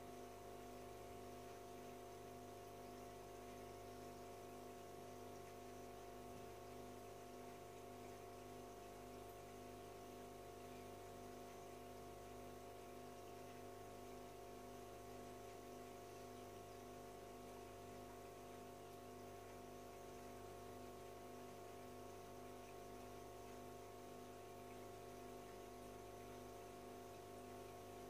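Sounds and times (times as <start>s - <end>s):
aquarium filter pump humming: 0.0s - 28.0s.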